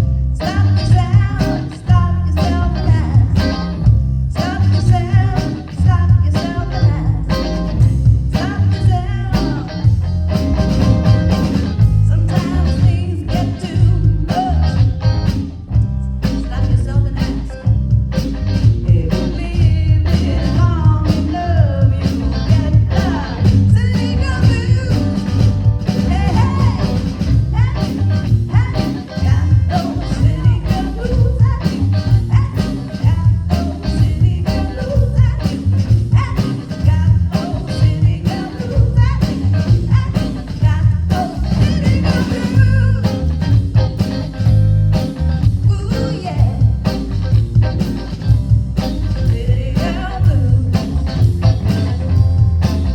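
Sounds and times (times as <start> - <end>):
bass guitar: 0.0 - 52.9
blues band playing: 0.0 - 52.9
electric guitar melody: 0.0 - 52.9
steady drum beat: 0.0 - 52.9.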